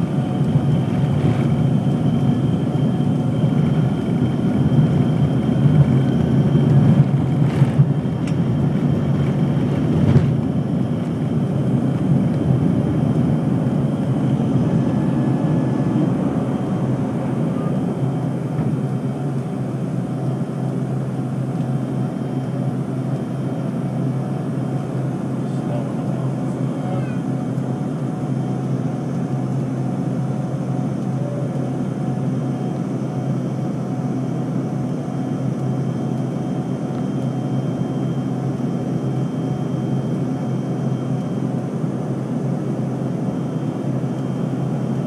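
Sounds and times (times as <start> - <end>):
jet engines and airflow rushing: 0.0 - 45.0.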